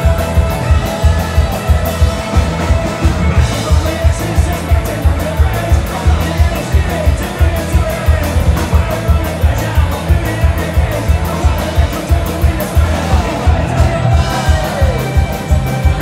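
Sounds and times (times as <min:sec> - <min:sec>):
bass guitar: 0:00.0 - 0:16.0
fast drum beat: 0:00.0 - 0:16.0.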